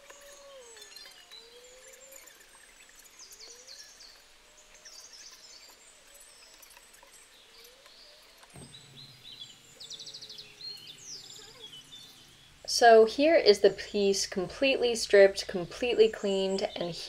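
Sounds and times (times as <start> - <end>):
faint birdsong chirps and trills: 0.0 - 17.0.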